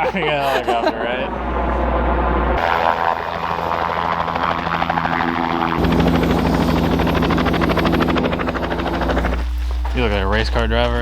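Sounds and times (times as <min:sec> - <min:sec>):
helicopter rotor chopping: 0:00.0 - 0:11.0
turbine whine: 0:00.0 - 0:11.0.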